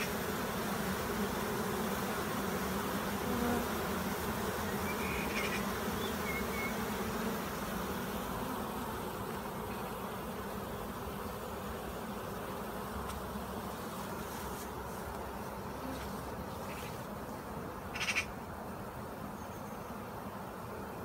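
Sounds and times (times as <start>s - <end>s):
bee swarm humming: 0.0s - 21.0s.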